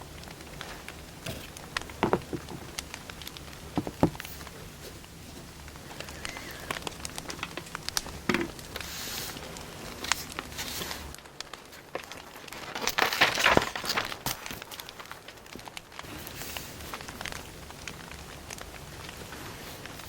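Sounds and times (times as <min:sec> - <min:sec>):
firewood crackling and popping: 0:00.0 - 0:20.0
rustling: 0:00.0 - 0:20.0.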